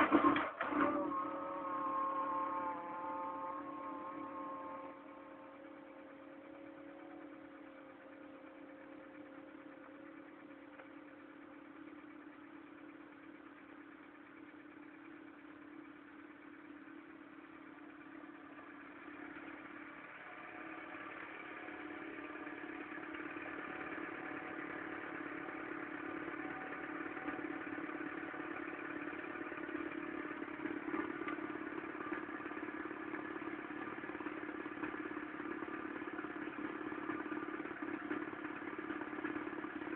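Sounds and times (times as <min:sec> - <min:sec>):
clattery petrol engine running: 0:00.0 - 0:39.9.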